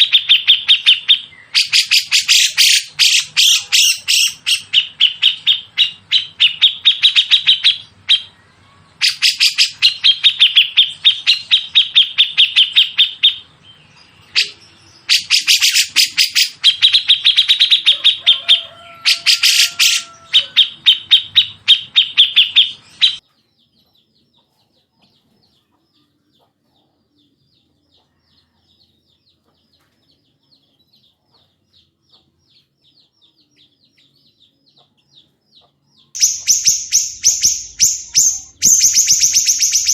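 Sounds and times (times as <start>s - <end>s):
songbird rattling song: 0.0s - 28.2s, 28.8s - 39.9s.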